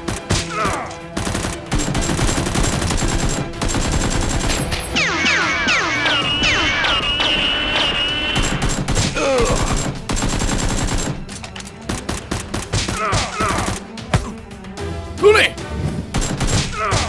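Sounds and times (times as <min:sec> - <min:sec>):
rapid automatic gunfire: 0:00.0 - 0:13.9, 0:16.1 - 0:16.8.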